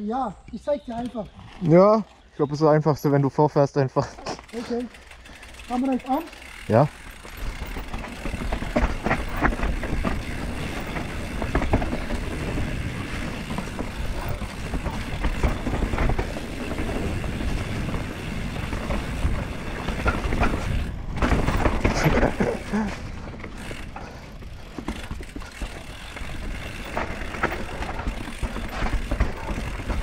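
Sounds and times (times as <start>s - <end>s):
bike rattling and knocking: 4.0s - 30.0s
bike tyres rumbling on dirt: 4.4s - 30.0s.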